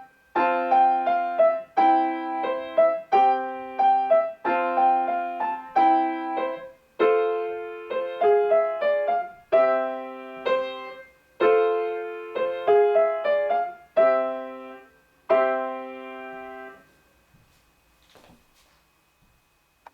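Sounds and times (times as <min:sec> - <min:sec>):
solo piano playing: 0:00.0 - 0:16.9.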